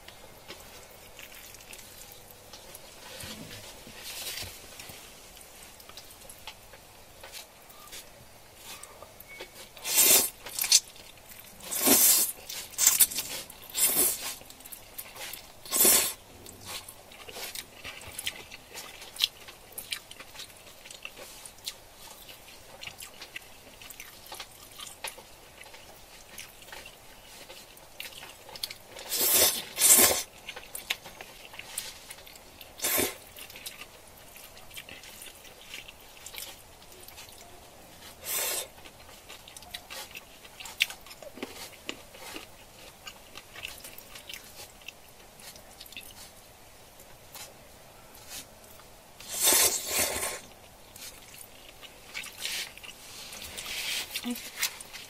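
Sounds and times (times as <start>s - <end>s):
biting and chewing: 0.0s - 4.9s, 5.8s - 46.4s, 48.2s - 55.0s.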